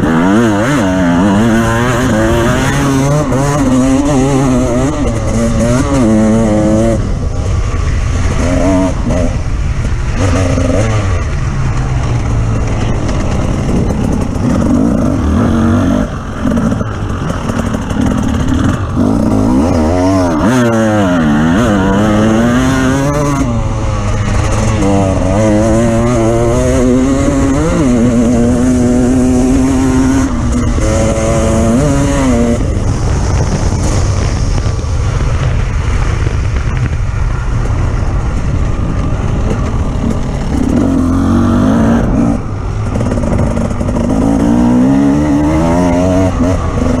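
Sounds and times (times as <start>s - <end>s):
off-road vehicle engine revving: 0.0s - 7.2s, 10.1s - 33.5s, 39.0s - 47.0s.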